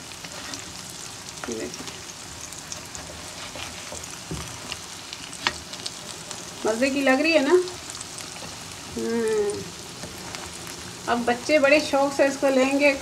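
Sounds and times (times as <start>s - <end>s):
pastries sizzling in frying oil: 0.0s - 13.0s.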